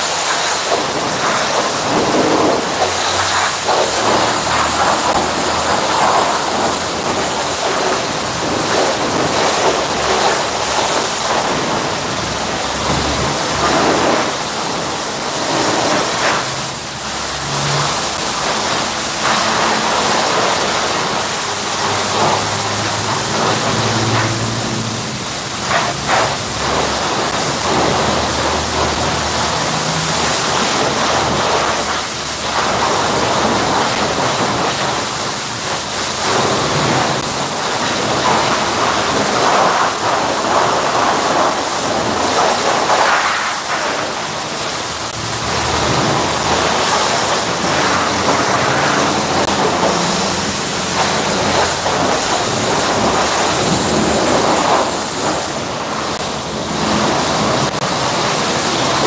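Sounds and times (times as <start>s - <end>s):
pressure washer spraying water: 0.0s - 59.0s.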